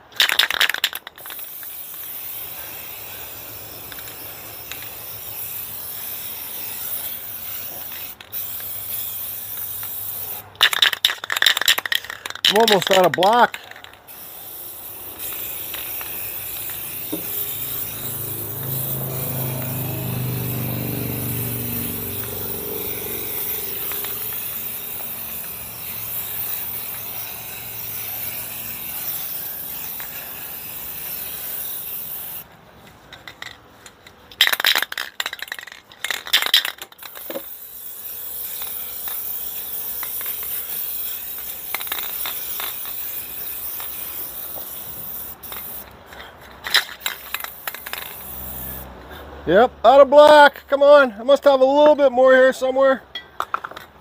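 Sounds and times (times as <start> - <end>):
spray paint can hissing: 0.0 - 46.0, 46.6 - 48.9
spray can rattling when shaken: 0.0 - 48.9.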